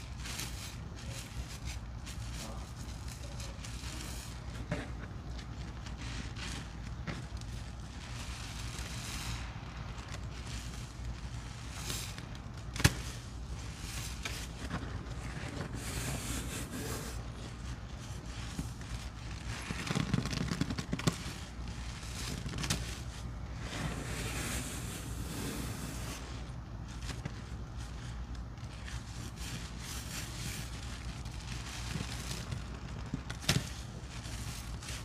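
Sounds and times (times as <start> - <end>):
sponge squishing soap suds: 0.1 - 35.0.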